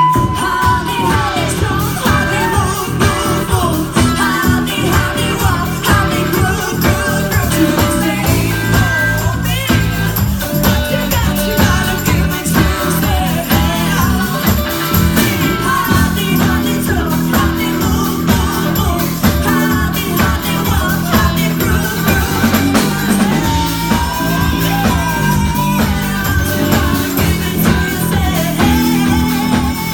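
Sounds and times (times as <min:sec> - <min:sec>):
live pop-rock band: 0:00.0 - 0:29.9
person singing: 0:00.0 - 0:29.9.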